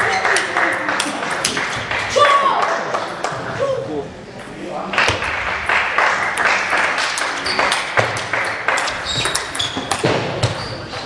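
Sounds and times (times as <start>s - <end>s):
sports hall background noise: 0.0s - 11.0s.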